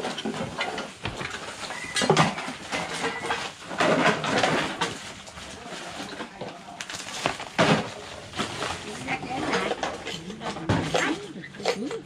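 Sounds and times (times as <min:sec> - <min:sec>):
plastic bags rustling and clattering: 0:00.0 - 0:12.0.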